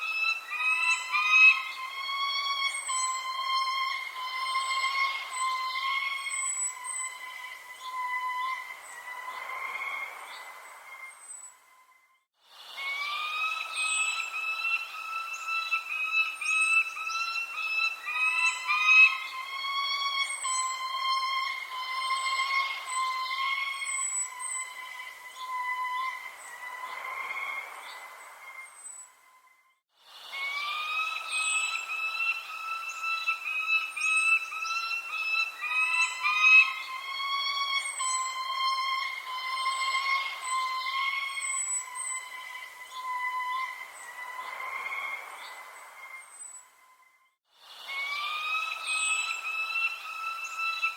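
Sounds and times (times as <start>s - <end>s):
bird chirps and calls: 0.0s - 11.6s, 12.8s - 29.2s, 30.3s - 46.8s, 47.9s - 50.9s
long wavering whistled tones: 0.0s - 50.9s.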